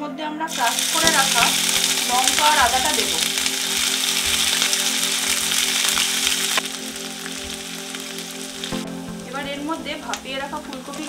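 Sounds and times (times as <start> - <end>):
chillies sizzling in hot oil: 0.5 - 11.0.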